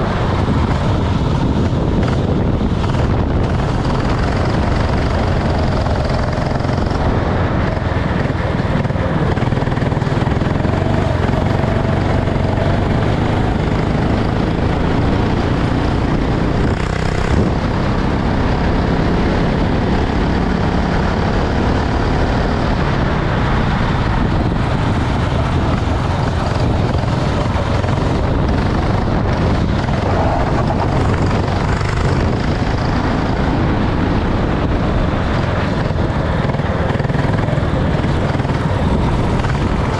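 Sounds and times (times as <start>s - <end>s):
go-kart engine running: 0.0s - 39.9s
loud dense continuous noise: 0.0s - 39.9s.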